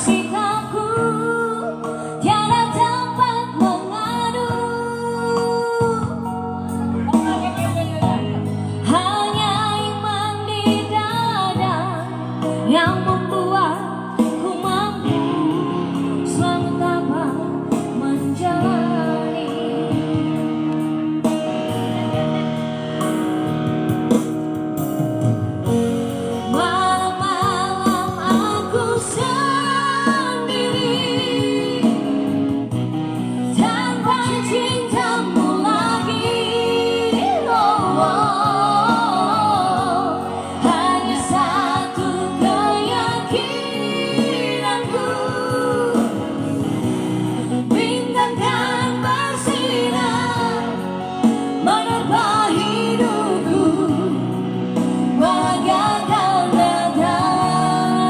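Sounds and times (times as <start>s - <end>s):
woman singing pop ballad: 0.0s - 25.0s, 25.6s - 58.0s
instrumental backing with guitar: 0.0s - 58.0s.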